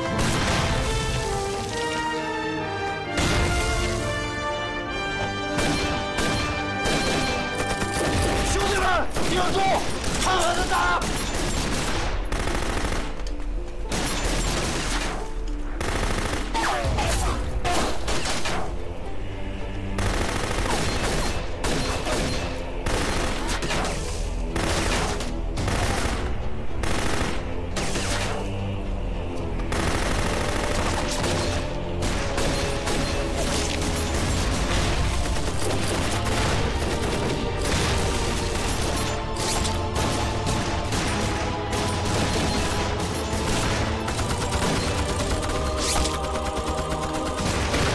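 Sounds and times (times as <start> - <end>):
dramatic background music: 0.0 - 47.9.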